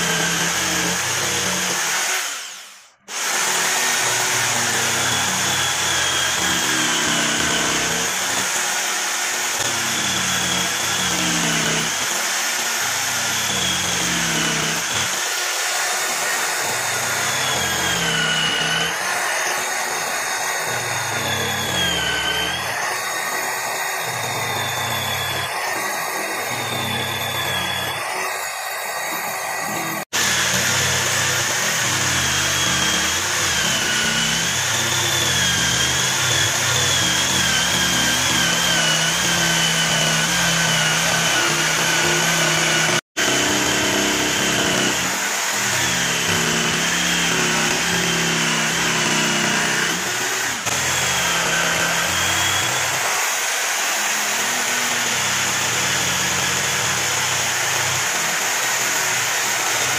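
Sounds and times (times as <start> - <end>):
jigsaw cutting wood: 0.0 - 59.9.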